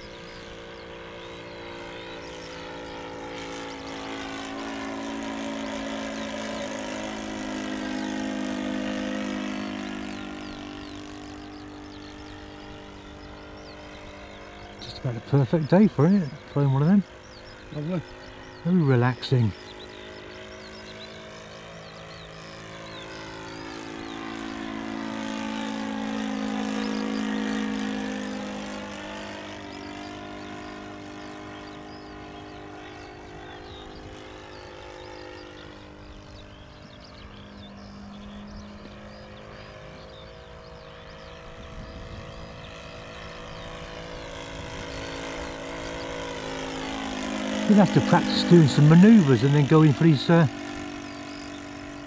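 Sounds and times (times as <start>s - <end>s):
model airplane engine and propeller: 0.0s - 52.0s.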